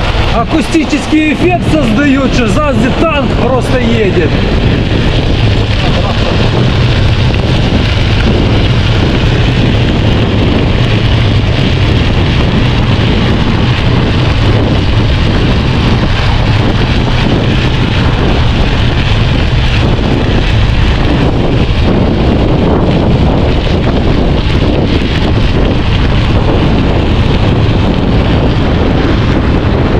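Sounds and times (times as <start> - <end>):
bicycle tyres humming on road: 0.0 - 29.9
wind rumble on microphone: 0.0 - 29.9.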